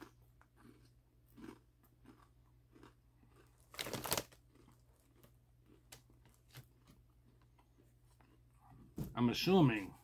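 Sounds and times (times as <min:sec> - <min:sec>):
person chewing crispy crackers: 0:00.0 - 0:08.9.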